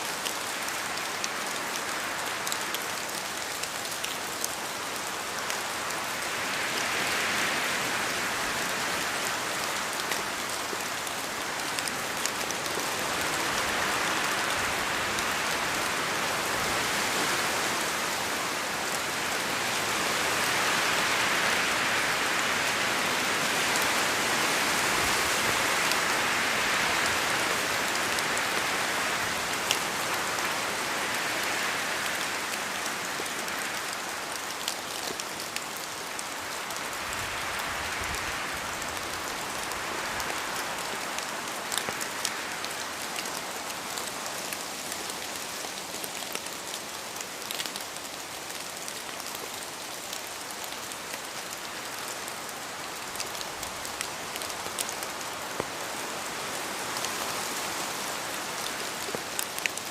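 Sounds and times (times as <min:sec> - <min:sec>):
rain in a forest: 0:00.0 - 0:59.9
wind in trees: 0:00.0 - 0:59.9.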